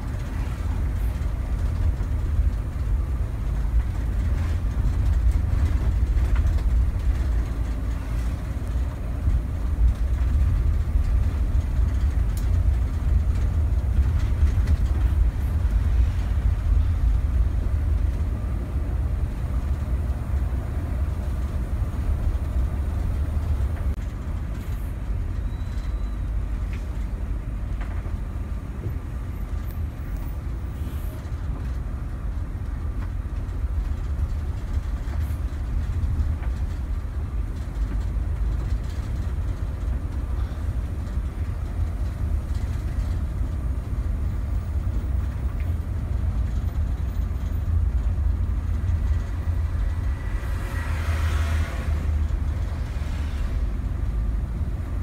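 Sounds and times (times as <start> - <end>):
bus engine rumble: 0.0 - 55.0
road noise: 0.0 - 55.0.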